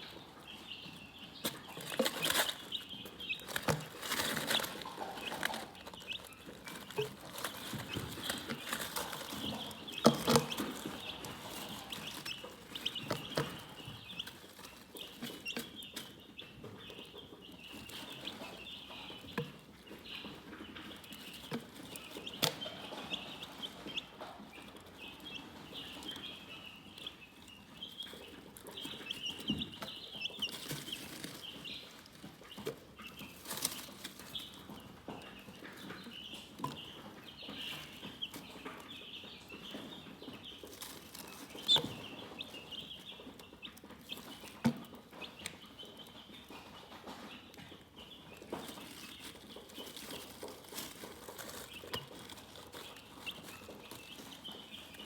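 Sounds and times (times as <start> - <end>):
chicks peeping: 0.0 - 55.0
rustling: 0.6 - 45.8, 46.6 - 55.0.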